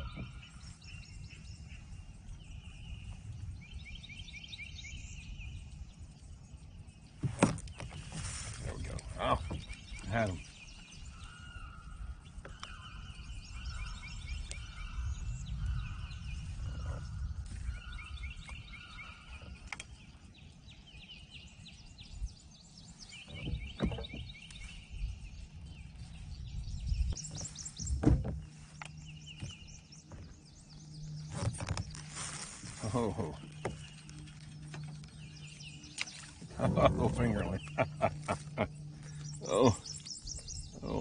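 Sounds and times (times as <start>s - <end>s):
birds trilling: 0.0s - 41.0s
low rumble: 8.0s - 41.0s.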